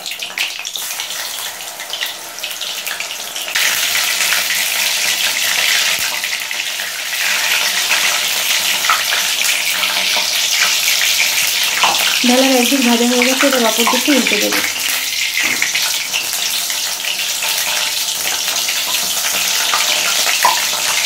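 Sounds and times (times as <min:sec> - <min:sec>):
fritters deep-frying in oil: 0:00.0 - 0:21.0.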